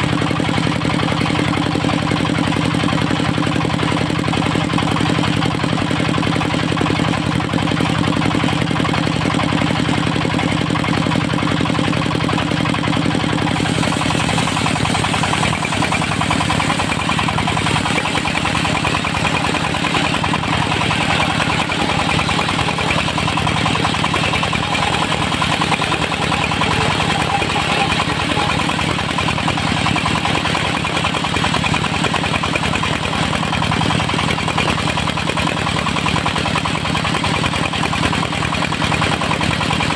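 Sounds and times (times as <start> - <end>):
engine driving a sawmill: 0.0 - 39.9.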